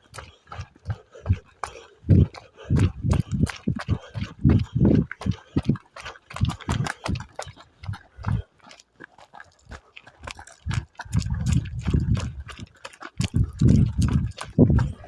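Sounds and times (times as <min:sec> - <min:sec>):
heavy breathing: 0:00.0 - 0:15.0
footfalls on a dirt path: 0:02.1 - 0:15.0.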